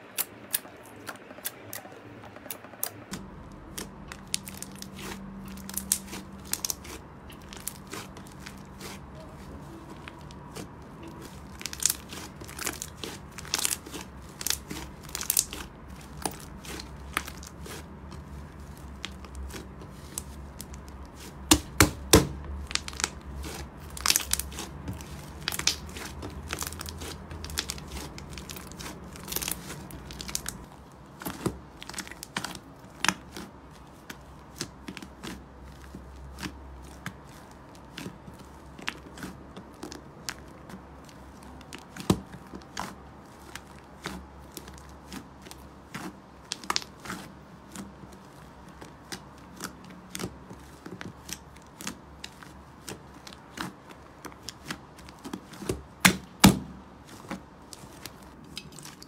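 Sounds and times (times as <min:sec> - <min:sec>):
slime crackling and popping: 0:00.0 - 0:59.0.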